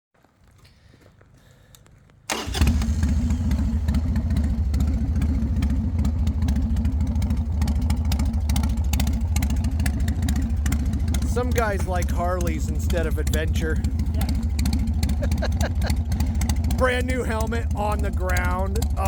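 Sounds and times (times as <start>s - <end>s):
motorcycle engine idling: 1.3s - 19.0s
motorcycle engine starting: 1.9s - 19.0s.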